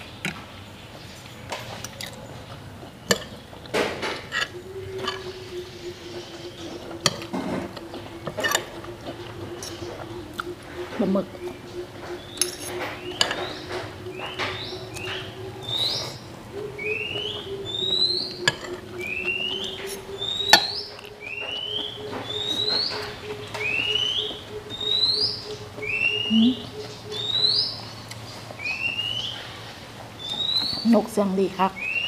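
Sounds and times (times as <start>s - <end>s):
songbird chirping: 0.0s - 32.0s.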